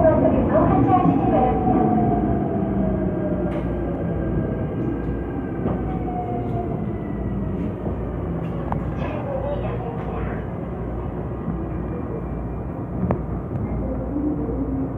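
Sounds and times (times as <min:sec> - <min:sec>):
train wheels and motors rumbling: 0:00.0 - 0:14.9.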